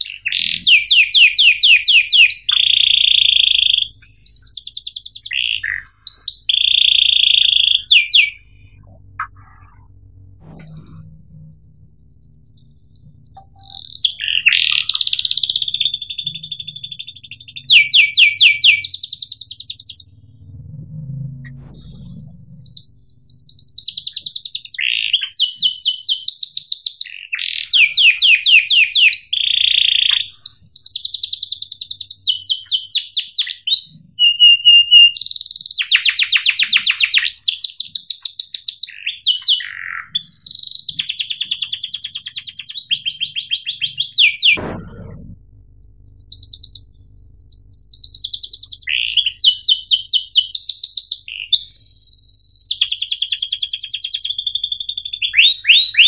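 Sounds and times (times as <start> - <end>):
canary singing trills: 0.0 - 20.9, 21.5 - 56.0.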